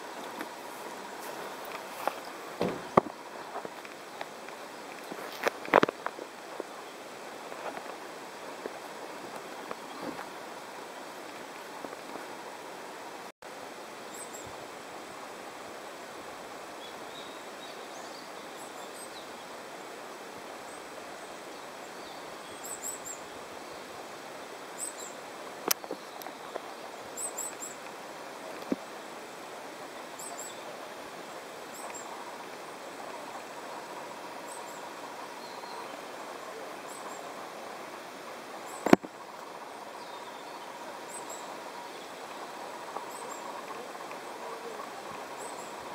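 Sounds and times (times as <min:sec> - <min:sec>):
small birds chirping: 0:00.0 - 0:12.7, 0:20.6 - 0:45.9
background hiss: 0:00.0 - 0:45.9.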